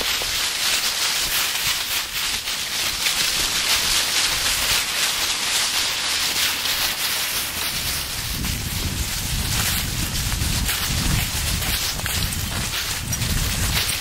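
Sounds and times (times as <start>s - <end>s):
leaves crunching underfoot: 0.0s - 14.0s.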